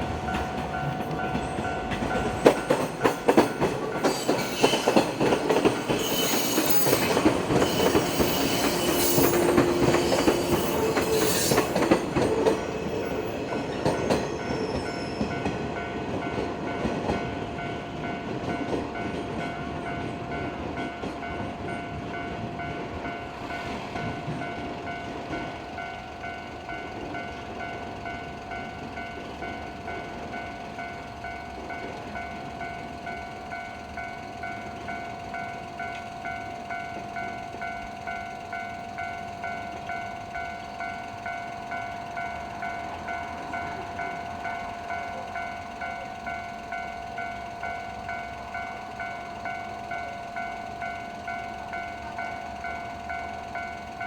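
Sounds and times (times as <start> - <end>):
passing train running noise: 0.0 - 54.0.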